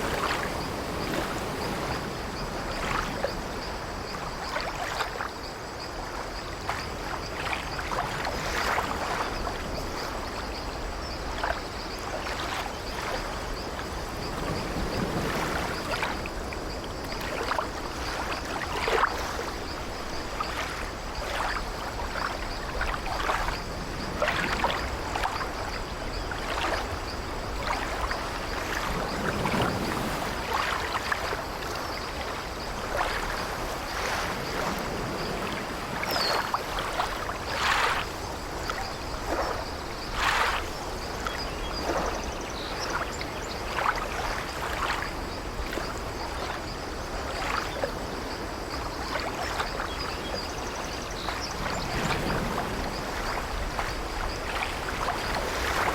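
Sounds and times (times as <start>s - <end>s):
sea waves washing against ship: 0.0s - 55.9s.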